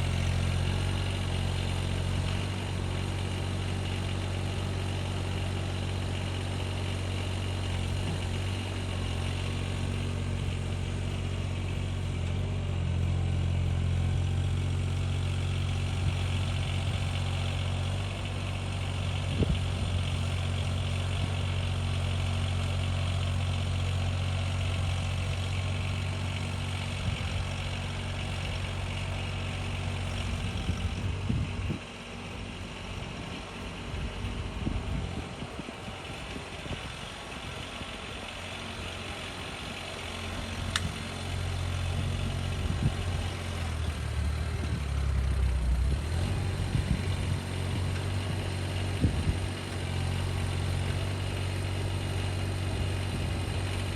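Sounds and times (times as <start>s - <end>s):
engine humming: 0.0s - 53.9s.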